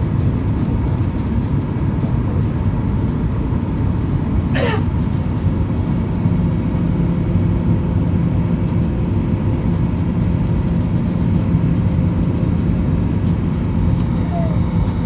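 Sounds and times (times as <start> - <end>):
airliner cabin rumble: 0.0 - 15.0
low hum: 0.0 - 15.0.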